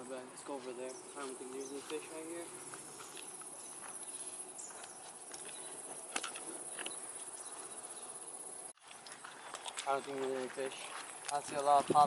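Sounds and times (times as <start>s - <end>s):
insects trilling: 0.0s - 11.6s.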